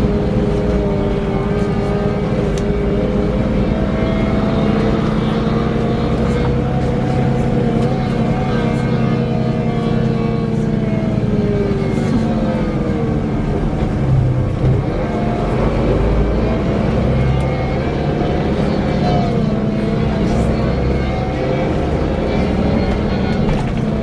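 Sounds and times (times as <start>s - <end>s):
coach engine hum: 0.0s - 24.0s
whirring whine: 0.0s - 24.0s.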